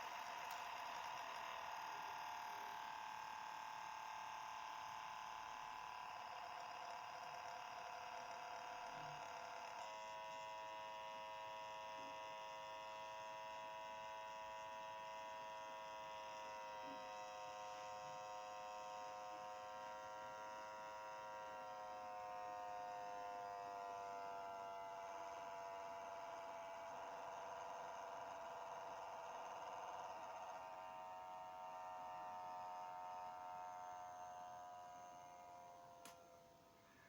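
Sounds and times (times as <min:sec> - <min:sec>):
small cooling fan whining buzz: 0:00.0 - 0:37.0.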